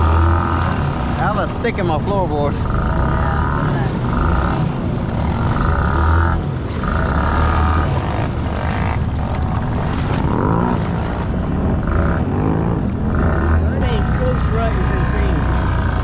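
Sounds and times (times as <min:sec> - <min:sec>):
atv engine revving: 0:00.0 - 0:16.0.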